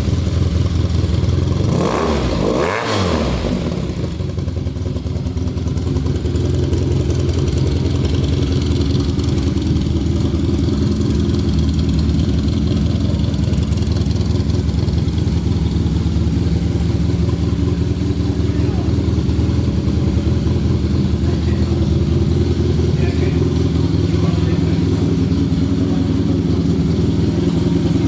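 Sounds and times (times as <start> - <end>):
motorcycle engine idling: 0.0 - 2.7, 3.3 - 28.0.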